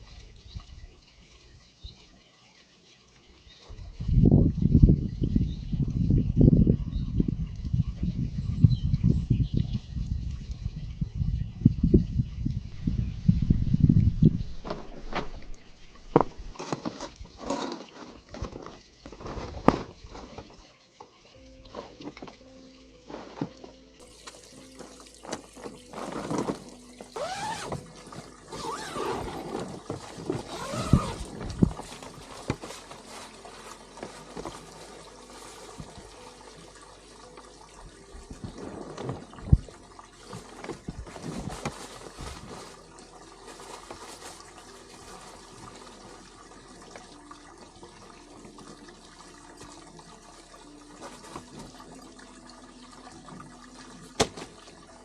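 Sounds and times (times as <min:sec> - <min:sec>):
water pouring and splashing: 0:00.0 - 0:12.8, 0:13.5 - 0:55.0
water trickling: 0:00.0 - 0:55.0.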